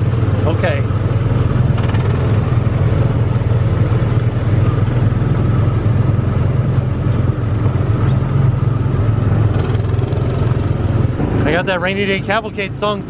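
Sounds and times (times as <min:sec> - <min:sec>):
small gasoline engine running: 0:00.0 - 0:11.1.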